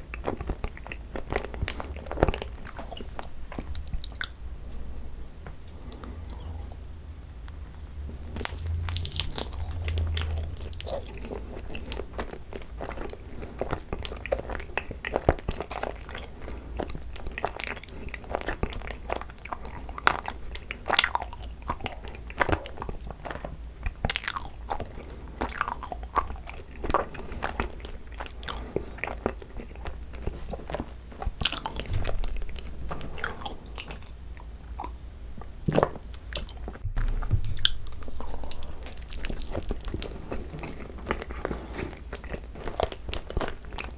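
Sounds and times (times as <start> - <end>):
chewing with mouth clicks: 0.0 - 4.4, 5.7 - 6.6, 7.7 - 43.9.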